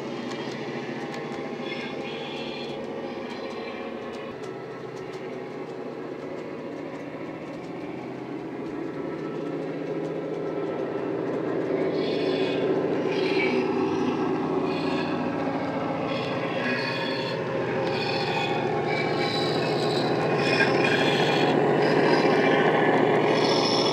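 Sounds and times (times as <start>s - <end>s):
model locomotive diesel engine drone: 0.0s - 23.9s.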